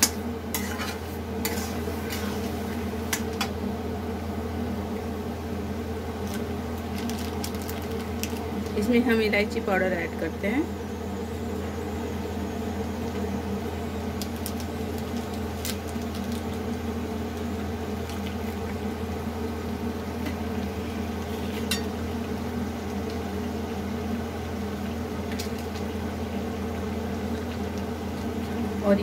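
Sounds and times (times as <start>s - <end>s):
food cooking in a pan: 0.0s - 29.0s
steady low hum: 0.0s - 29.0s.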